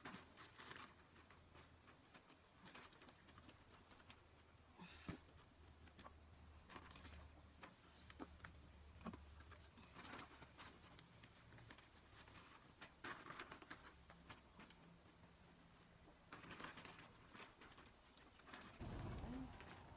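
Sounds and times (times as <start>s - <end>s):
potting mix rustling into pots: 0.0s - 19.9s.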